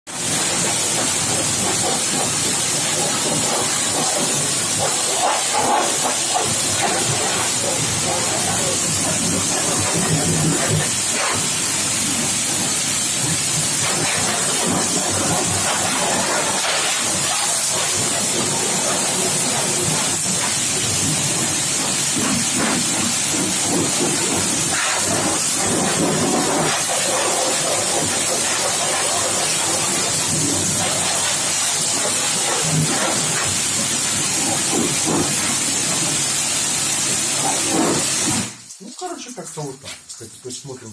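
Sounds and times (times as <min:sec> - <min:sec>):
pressure washer spraying water: 0:00.1 - 0:40.4.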